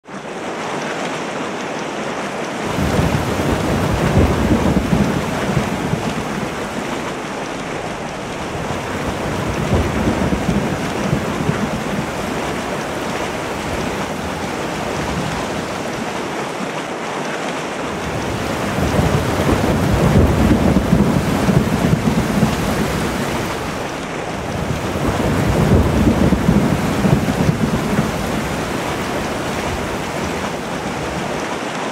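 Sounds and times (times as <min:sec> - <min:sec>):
low rolling thunder: 0:02.6 - 0:16.2, 0:17.9 - 0:31.5
rain hissing: 0:02.6 - 0:16.4, 0:17.8 - 0:31.9.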